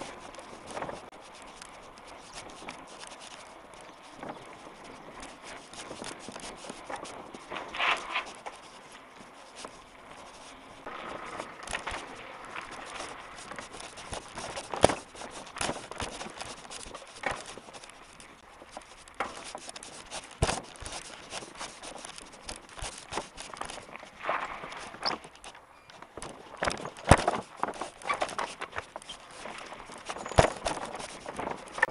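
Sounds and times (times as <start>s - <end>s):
mountain bike rattling over ground: 0.0s - 31.9s.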